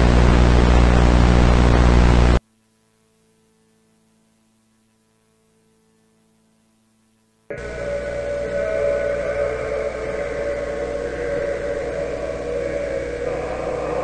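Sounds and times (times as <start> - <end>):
loud static hiss: 0.0 - 14.0
low electrical hum: 0.0 - 14.0.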